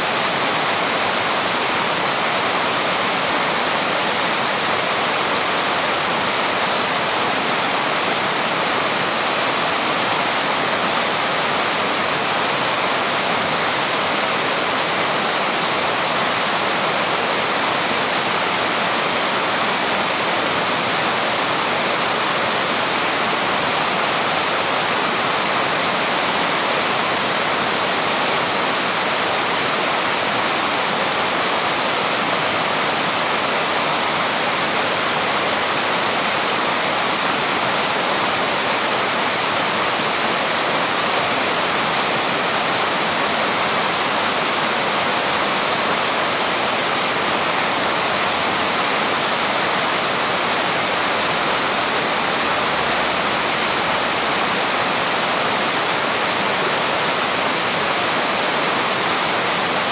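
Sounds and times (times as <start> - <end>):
small waterfall pouring: 0.0 - 59.9.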